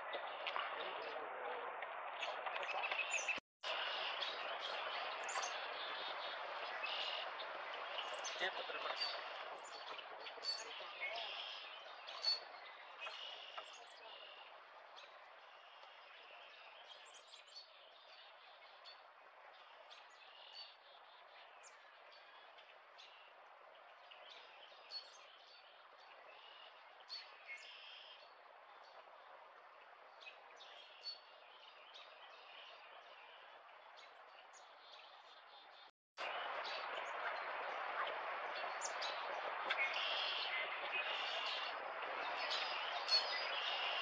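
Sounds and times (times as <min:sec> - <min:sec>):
small birds chirping: 0:02.2 - 0:29.0, 0:30.2 - 0:44.0.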